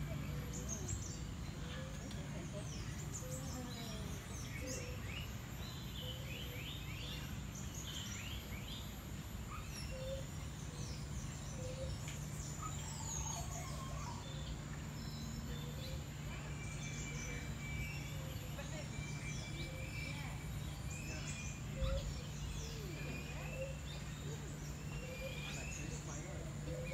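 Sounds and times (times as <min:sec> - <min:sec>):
birds chirping and whistling: 0:02.7 - 0:26.9.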